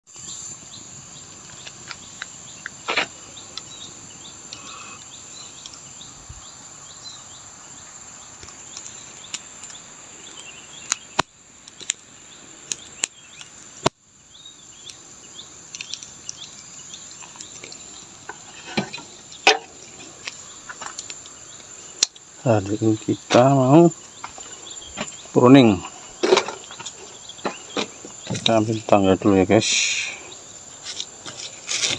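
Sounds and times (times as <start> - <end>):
insects trilling: 0.0 - 31.9.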